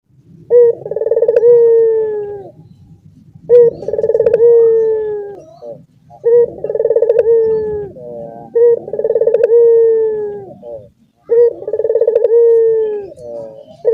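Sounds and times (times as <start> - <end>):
doves cooing: 0.3 - 13.9.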